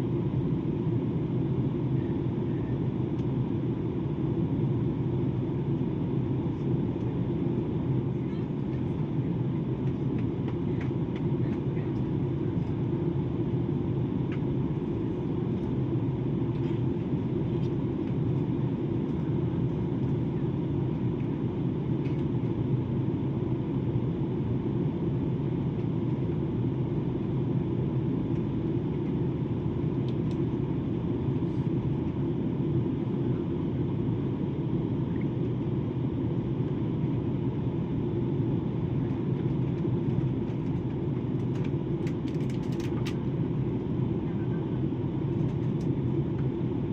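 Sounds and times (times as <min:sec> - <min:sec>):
airliner cabin drone: 0:00.0 - 0:46.9.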